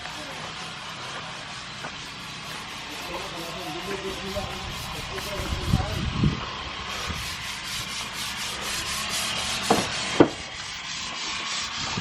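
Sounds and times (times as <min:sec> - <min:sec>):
hand tool scraping cement wall: 0:00.0 - 0:12.0.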